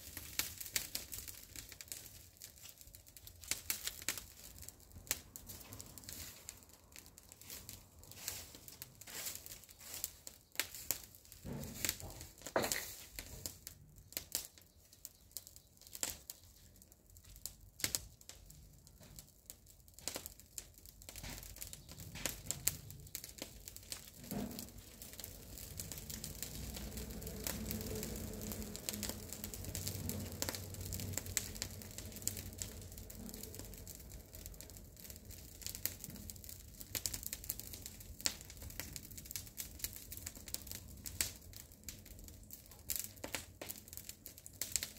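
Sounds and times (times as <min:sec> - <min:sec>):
brush fire crackling and popping: 0:00.0 - 0:44.9.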